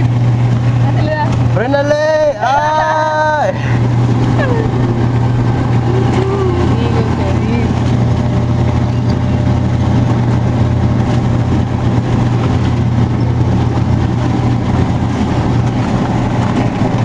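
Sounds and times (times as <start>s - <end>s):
ride machinery humming: 0.0s - 17.0s.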